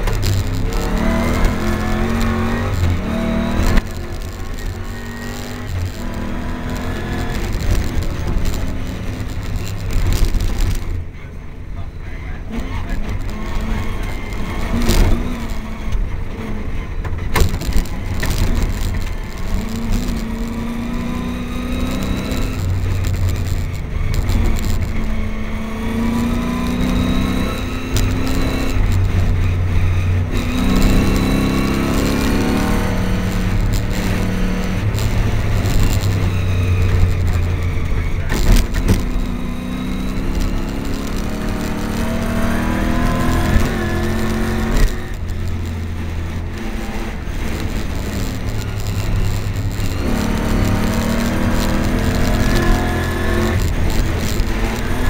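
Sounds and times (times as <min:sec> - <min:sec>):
truck engine revving: 0:00.0 - 0:11.1, 0:12.4 - 0:55.0.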